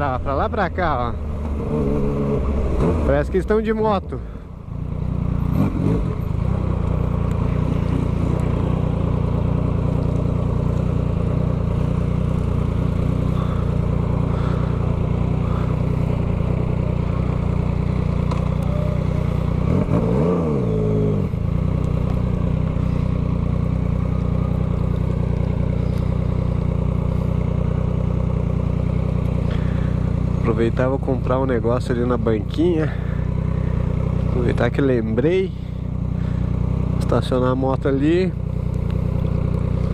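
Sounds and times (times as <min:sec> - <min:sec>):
engine rev: 0:00.0 - 0:39.9
motorcycle engine running: 0:00.0 - 0:39.9.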